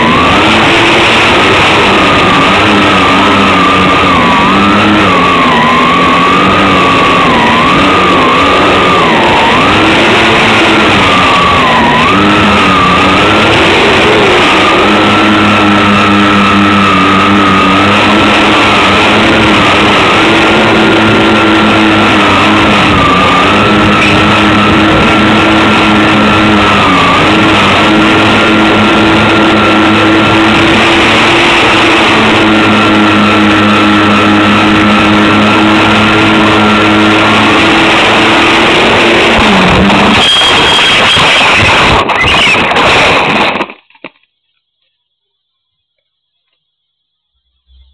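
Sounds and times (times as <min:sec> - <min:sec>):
electric plane motors whining: 0:00.0 - 0:41.9
heavy rushing noise: 0:00.0 - 0:44.1, 0:47.3 - 0:47.9.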